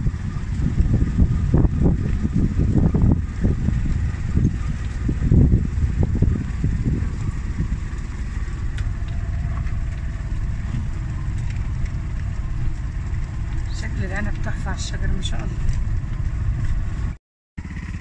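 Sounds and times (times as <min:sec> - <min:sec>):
small engine rumbling: 0:00.0 - 0:18.0.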